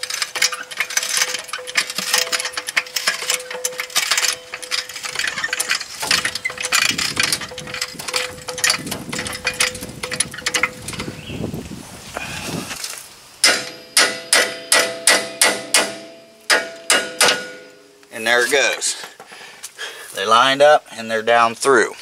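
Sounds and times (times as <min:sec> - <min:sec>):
jack metallic clicking and rattling: 0:00.0 - 0:11.4, 0:12.8 - 0:19.4.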